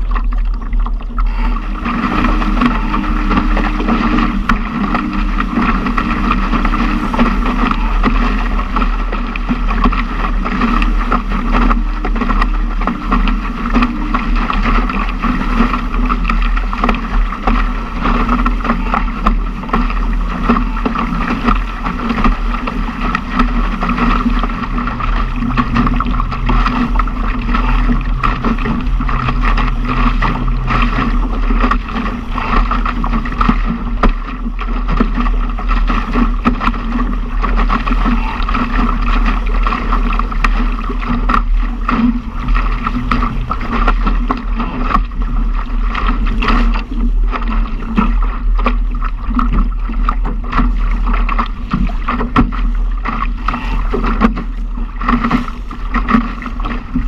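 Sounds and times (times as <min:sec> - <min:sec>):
boat hull slapping through chop: 0:00.0 - 0:57.0
wind rumble on microphone: 0:00.0 - 0:57.0.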